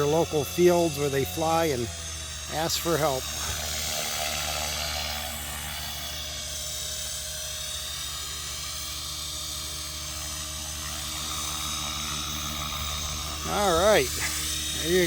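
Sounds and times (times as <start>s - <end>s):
rc helicopter motor whine: 0.0s - 15.0s
rotor blades humming: 0.0s - 15.0s.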